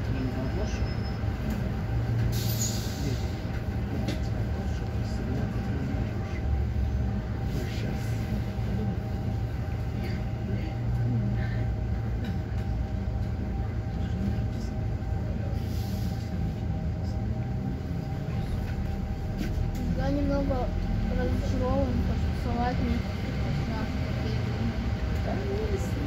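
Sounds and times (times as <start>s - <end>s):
bus engine idling hum: 0.0s - 26.0s.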